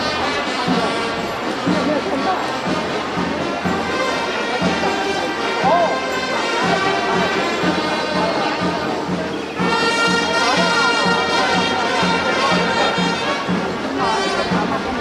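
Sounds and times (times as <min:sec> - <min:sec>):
horns playing melody: 0:00.0 - 0:15.0
steady drumbeat: 0:00.0 - 0:15.0.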